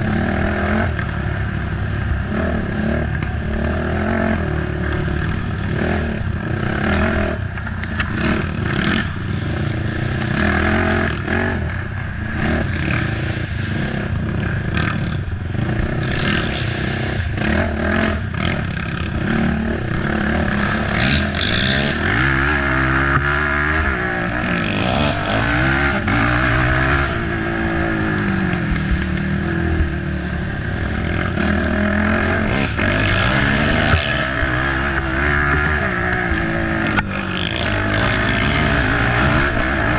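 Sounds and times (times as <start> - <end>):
atv engine revving: 0.0 - 39.9
knocks and rattles over rough trail: 0.0 - 39.9.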